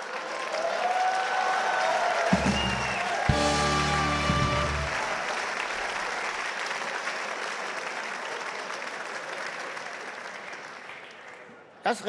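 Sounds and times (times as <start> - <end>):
large audience applauding: 0.0 - 11.7.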